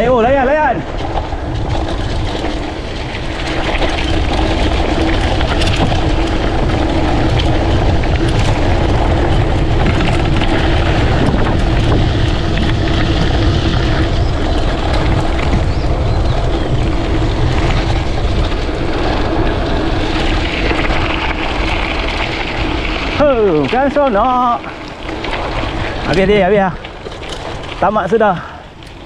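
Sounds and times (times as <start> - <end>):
bike clicks and rattles: 0.0 - 29.0
bike tyres on dirt: 0.0 - 29.0
wind buffeting microphone: 0.0 - 29.0.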